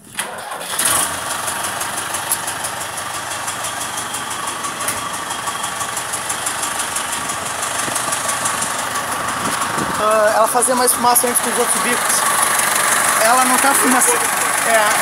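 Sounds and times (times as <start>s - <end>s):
diesel engine idling with clatter: 0.0s - 15.0s.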